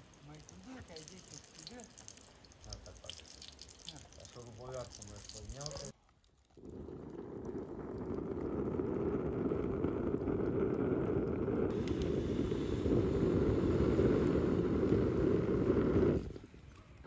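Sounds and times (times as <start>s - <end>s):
fire crackling: 0.0s - 17.0s
wood fire rumbling: 0.0s - 17.0s.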